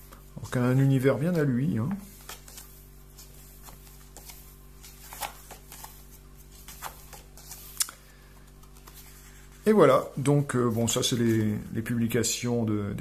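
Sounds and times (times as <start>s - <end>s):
paper pages rustling: 0.0s - 11.8s
faint hum: 0.0s - 13.0s.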